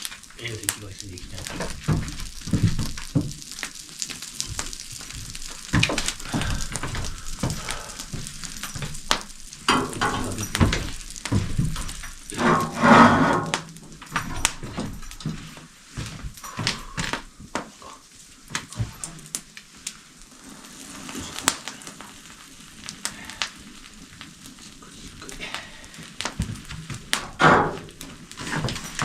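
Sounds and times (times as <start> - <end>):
fire crackles and knocks: 0.0 - 29.0
food sizzling over embers: 0.0 - 29.0.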